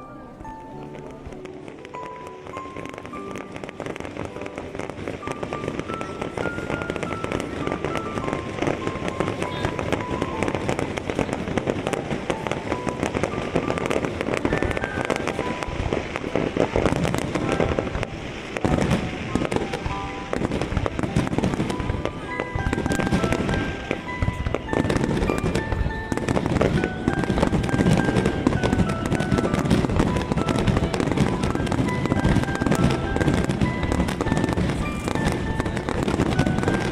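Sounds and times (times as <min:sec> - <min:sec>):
fireworks bursting and crackling: 0:00.0 - 0:36.9
music playing: 0:00.0 - 0:36.9.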